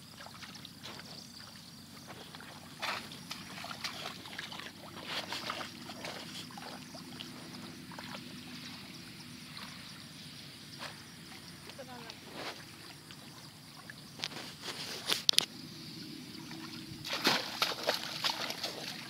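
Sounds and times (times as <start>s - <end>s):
muddy water splashing: 0.0s - 19.0s.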